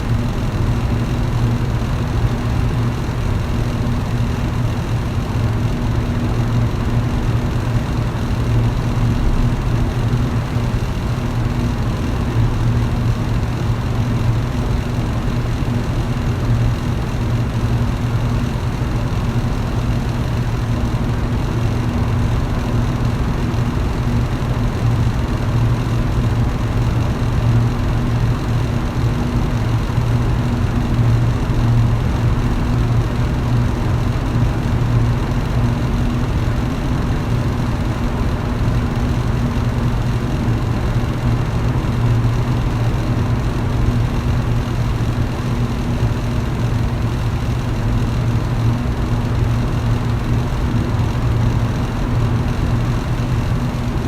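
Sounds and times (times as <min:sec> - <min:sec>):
electric fan running: 0:00.0 - 0:54.0.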